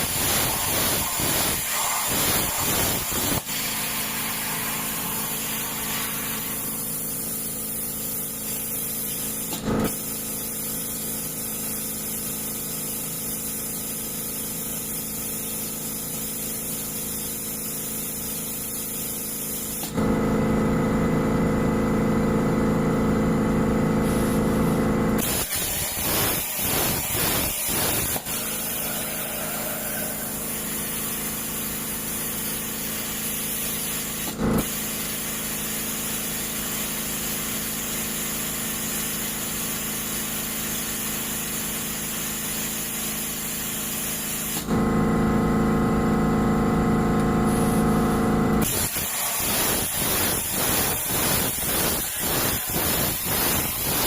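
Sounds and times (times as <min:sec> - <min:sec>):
cnc machine hiss and hum: 0:00.0 - 0:20.2, 0:23.9 - 0:54.0.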